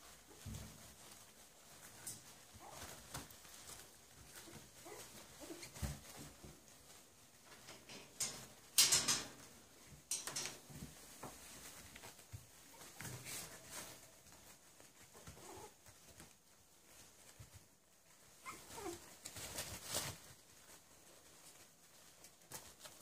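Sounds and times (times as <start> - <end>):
puppies pattering and rustling: 0.0 - 23.0.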